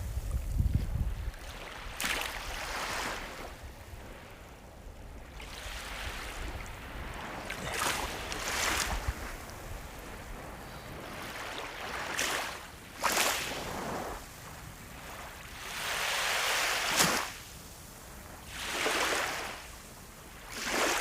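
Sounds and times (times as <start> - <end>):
ocean waves breaking: 1.4 - 17.4, 18.5 - 21.0.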